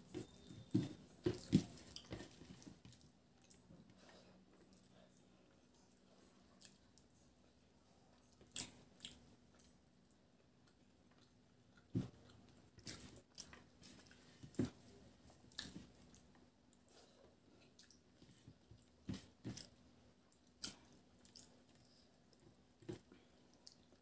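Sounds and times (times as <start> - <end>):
chewing and mouth smacks: 0.1 - 4.0, 6.6 - 7.2, 8.2 - 14.3, 15.4 - 24.0.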